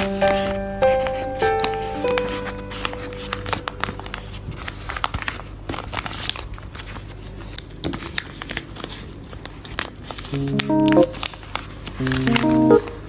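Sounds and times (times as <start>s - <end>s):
plastic packaging crinkling: 1.1s - 10.4s, 11.2s - 12.7s.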